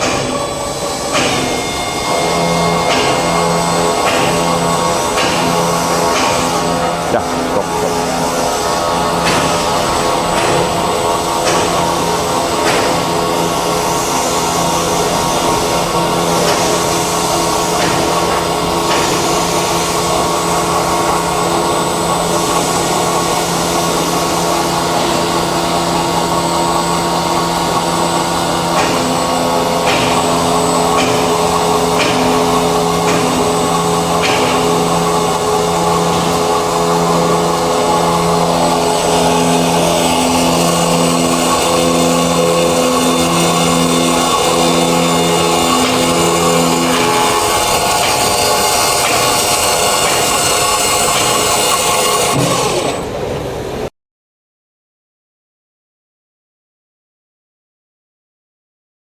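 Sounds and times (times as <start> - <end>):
circular saw machine hum: 0.0 - 53.9.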